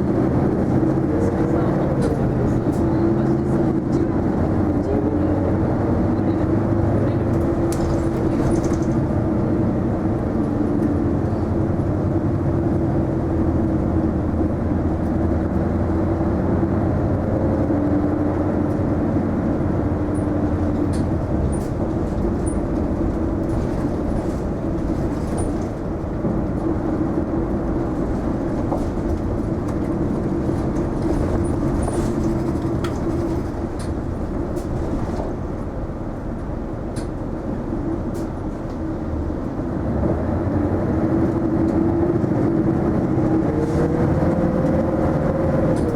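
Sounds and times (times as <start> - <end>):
bus engine drone: 0.0 - 45.9
road noise: 0.0 - 45.9.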